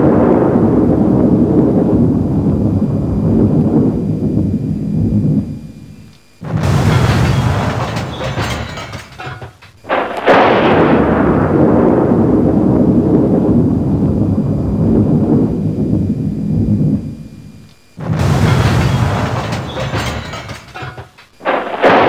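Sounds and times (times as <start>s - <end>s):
sharp thunderclap: 0.0s - 5.5s, 6.4s - 17.0s, 18.0s - 22.0s
crackling thunder roll: 0.0s - 5.7s, 6.4s - 17.2s, 18.0s - 22.0s.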